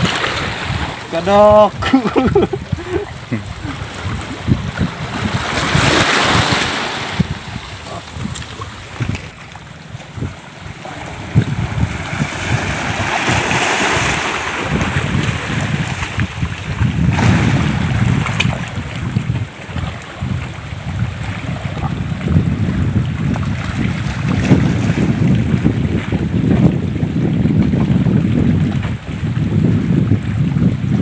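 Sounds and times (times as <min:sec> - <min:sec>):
waves breaking over rocks: 0:00.0 - 0:31.0
wind buffeting microphone: 0:00.0 - 0:31.0.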